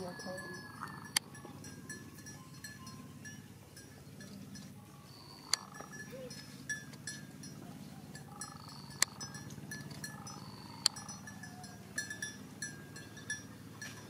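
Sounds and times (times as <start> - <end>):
livestock bells clinking: 0.0 - 14.0.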